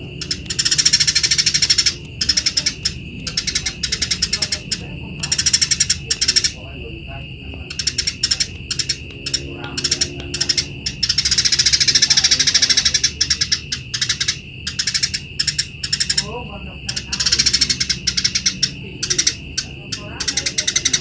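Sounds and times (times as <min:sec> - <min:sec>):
bird rattling trill: 0:00.0 - 0:21.0
sparrow chattering: 0:00.0 - 0:21.0
steady high whine: 0:00.0 - 0:21.0.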